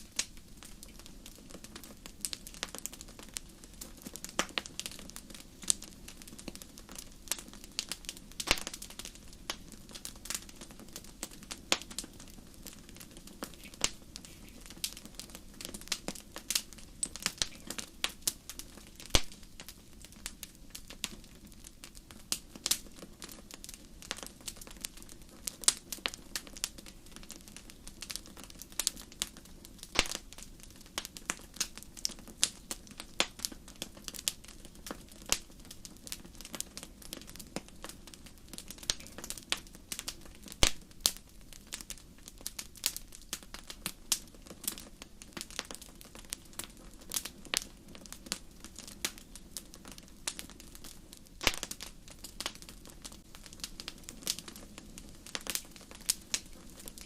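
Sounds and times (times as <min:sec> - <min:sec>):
fire crackling and popping: 0:00.0 - 0:57.0
low steady fire hiss: 0:00.0 - 0:57.0.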